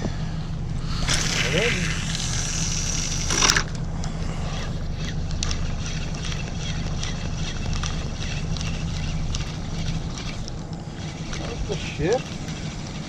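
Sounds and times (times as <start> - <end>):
engine running at low speed: 0.0 - 13.0.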